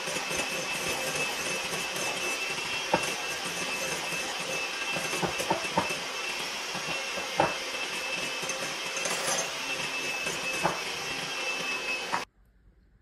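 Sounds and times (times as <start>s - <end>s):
electric hand mixer whirring: 0.0s - 12.3s.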